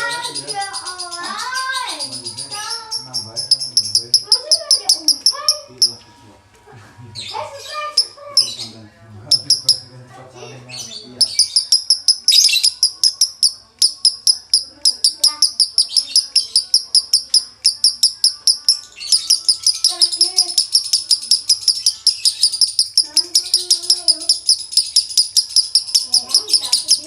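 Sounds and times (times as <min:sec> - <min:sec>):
lovebird chattering song: 0:00.0 - 0:06.0, 0:07.2 - 0:09.9, 0:10.7 - 0:27.0.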